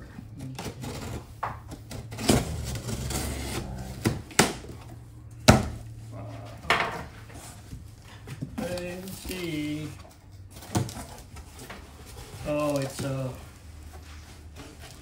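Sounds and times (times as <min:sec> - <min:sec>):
cardboard scraping: 0:00.0 - 0:04.8, 0:05.9 - 0:15.0.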